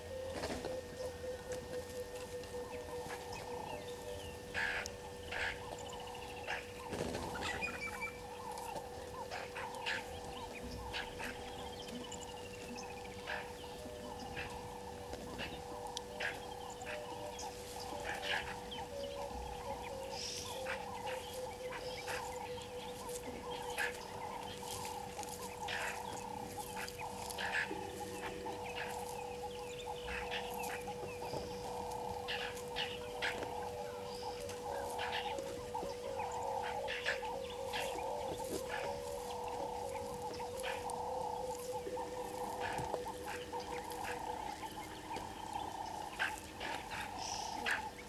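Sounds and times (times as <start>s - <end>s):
chorus of frogs trilling: 0.0s - 48.0s.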